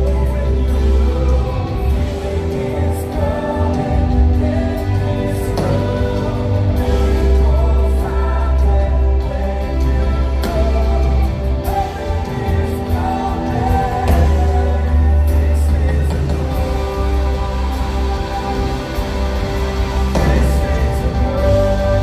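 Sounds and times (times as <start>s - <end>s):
band with heavy bass: 0.0s - 22.0s
group of voices singing: 0.0s - 22.0s.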